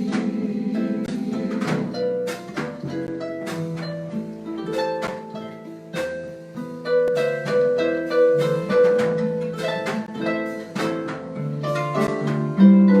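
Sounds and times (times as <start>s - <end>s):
harp playing jazz: 0.0s - 13.0s.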